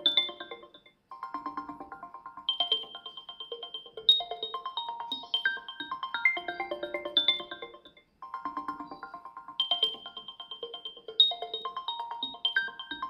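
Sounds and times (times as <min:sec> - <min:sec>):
instrumental melody of quick notes: 0:00.0 - 0:13.0.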